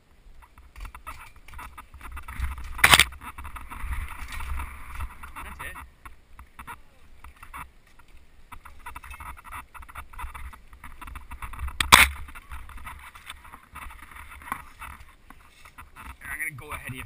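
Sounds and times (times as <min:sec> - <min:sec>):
mountain bike rattling and clicking: 0:00.4 - 0:16.2.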